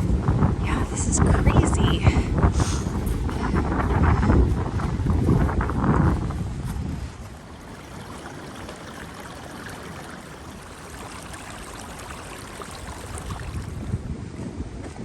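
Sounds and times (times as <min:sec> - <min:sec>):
strong wind through forest: 0:00.0 - 0:15.0.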